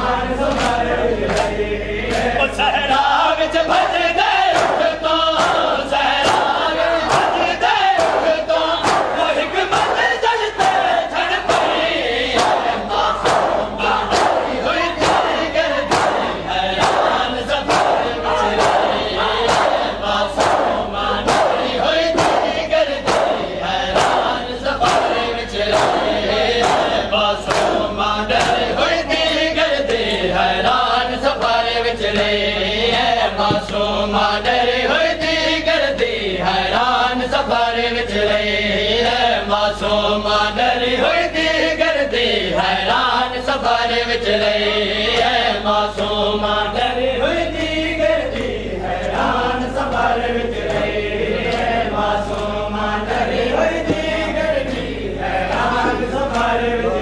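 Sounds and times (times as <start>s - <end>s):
men chanting in unison: 0.0s - 57.0s
rhythmic chest-beating slaps: 0.0s - 57.0s.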